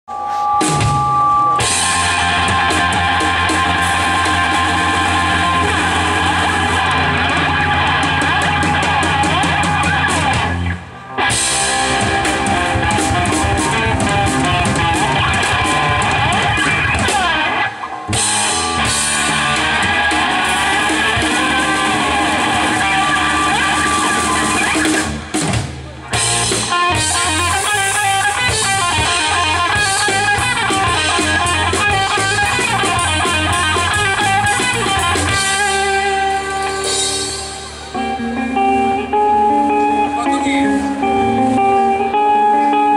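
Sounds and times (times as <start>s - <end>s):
live rock band playing: 0.1s - 42.9s.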